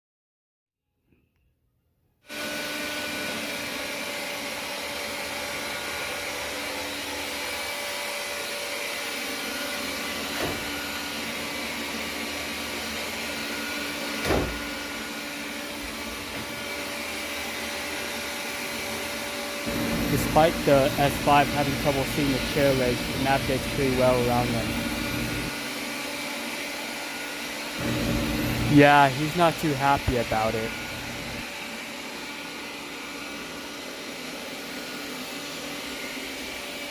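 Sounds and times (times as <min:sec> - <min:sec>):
robot vacuum cleaner whirring: 0:02.3 - 0:36.9.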